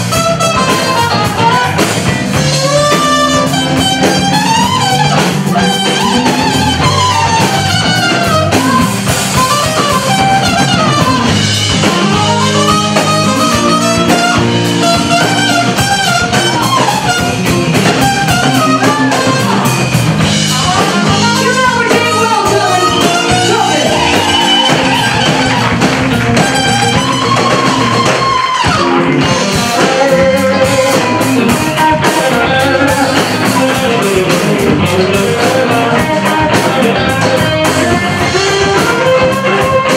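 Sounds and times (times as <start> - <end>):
guitar bending lead lines: 0.0 - 39.9
live blues band playing: 0.0 - 39.9.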